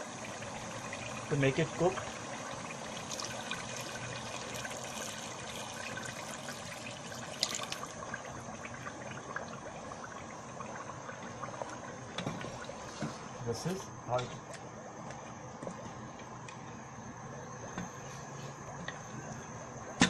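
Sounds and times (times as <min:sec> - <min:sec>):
food sizzling and bubbling in pot: 0:00.0 - 0:20.0.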